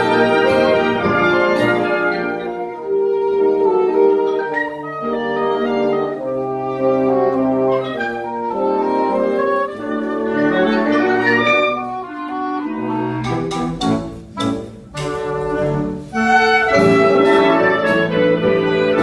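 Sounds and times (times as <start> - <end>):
wind band playing slow melody: 0.0 - 19.0.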